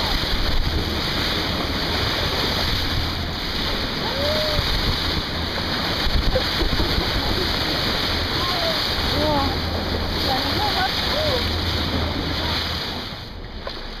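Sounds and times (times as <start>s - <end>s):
water splashing along boat bow: 0.0s - 14.0s.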